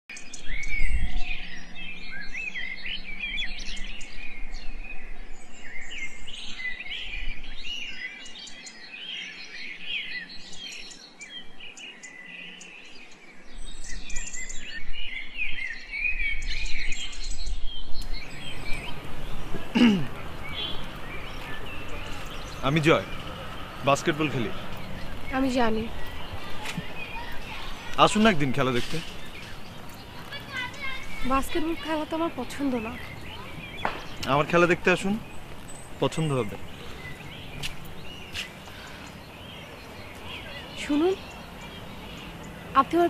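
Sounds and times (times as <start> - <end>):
birds chirping and singing: 0.1 - 43.0.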